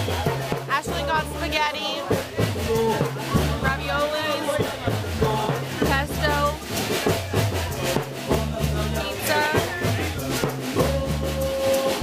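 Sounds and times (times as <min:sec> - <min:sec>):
bass line: 0:00.0 - 0:12.0
drum kit beat: 0:00.0 - 0:12.0.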